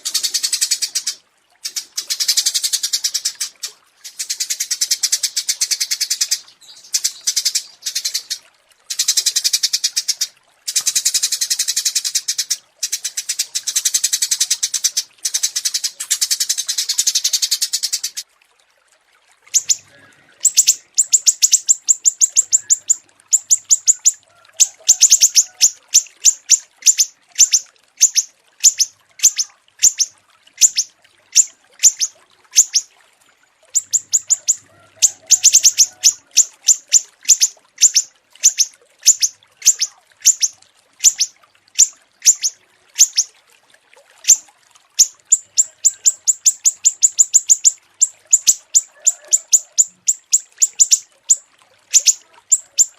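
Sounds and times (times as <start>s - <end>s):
songbird chirping: 0.0s - 18.2s, 19.5s - 32.9s, 33.7s - 43.3s, 45.0s - 52.9s.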